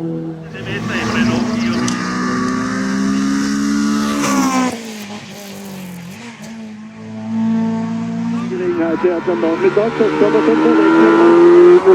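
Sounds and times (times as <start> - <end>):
car engine accelerating: 0.2 - 11.9.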